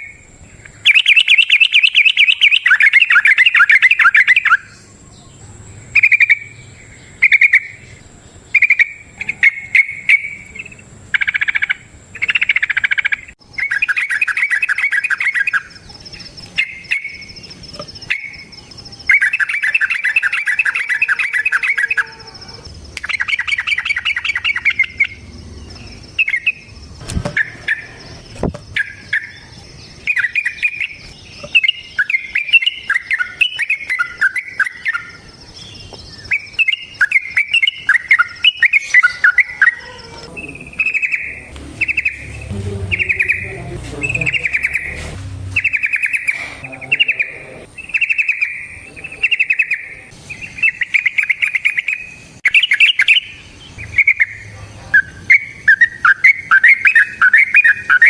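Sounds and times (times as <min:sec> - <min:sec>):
bulbul bubbling song: 0:00.0 - 0:04.8, 0:08.5 - 0:22.1, 0:22.9 - 0:35.2, 0:36.0 - 0:39.8, 0:40.5 - 0:58.0
short bird calls: 0:00.0 - 0:58.0.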